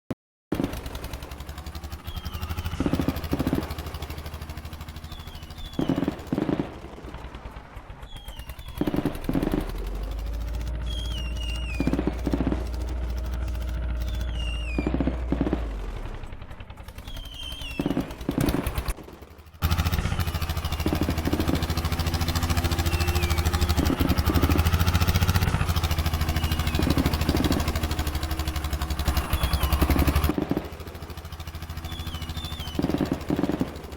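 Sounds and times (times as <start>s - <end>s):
tractor diesel engine running: 0.5s - 33.9s.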